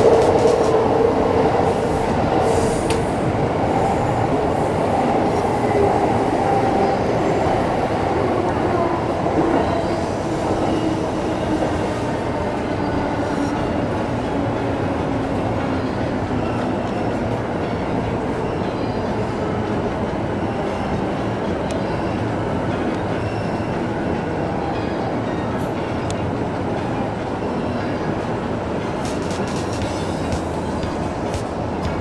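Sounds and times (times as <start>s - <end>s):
train wheel and rail noise: 0.0s - 32.0s.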